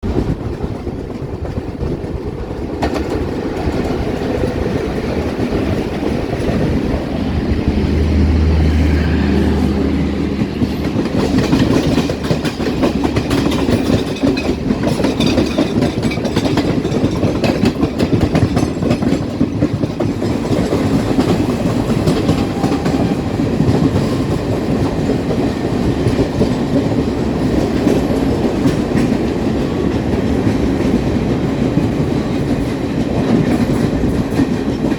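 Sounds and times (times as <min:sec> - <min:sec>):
train rumble: 0:00.0 - 0:34.9
wheels clacking over rail joints: 0:00.0 - 0:34.9.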